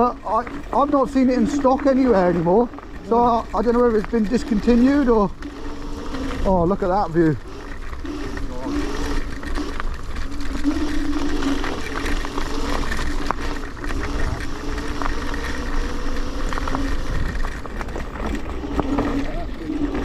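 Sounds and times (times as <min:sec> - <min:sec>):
electric scooter motor whining: 0:00.0 - 0:20.0.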